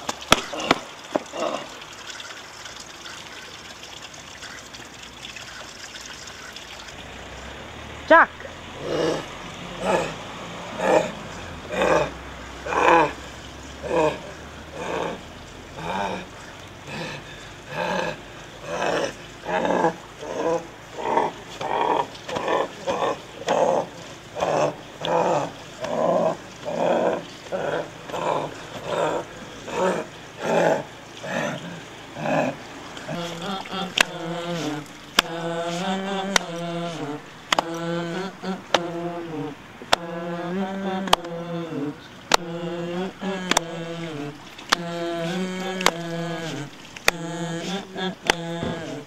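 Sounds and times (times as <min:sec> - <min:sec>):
fountain water running into basin: 0:00.0 - 0:49.0
beast growling: 0:00.4 - 0:01.8, 0:08.4 - 0:49.0.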